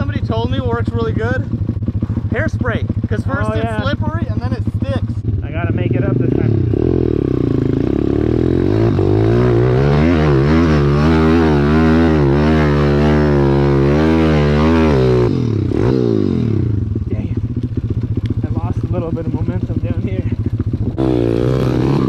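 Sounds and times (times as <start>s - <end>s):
pit bike engine revving: 0.0s - 22.0s.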